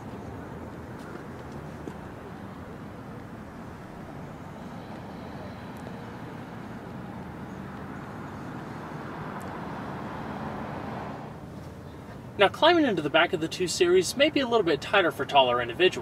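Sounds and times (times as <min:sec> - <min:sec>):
distant road traffic hum: 0:00.0 - 0:16.0.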